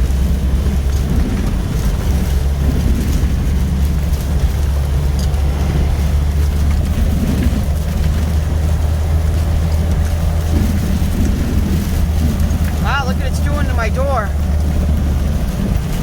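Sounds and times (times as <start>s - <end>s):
heavy rain beating on a car: 0.0s - 16.0s
hurricane wind: 0.0s - 16.0s
steady deep rumble: 0.0s - 16.0s.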